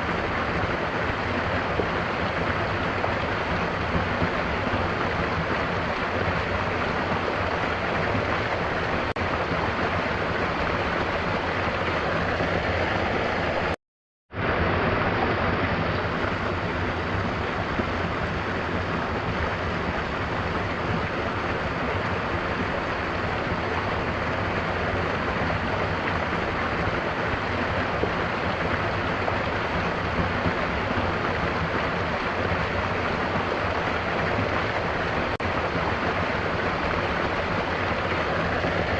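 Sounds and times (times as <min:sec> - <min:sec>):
waterfall rushing: 0:00.0 - 0:13.8, 0:14.4 - 0:38.9.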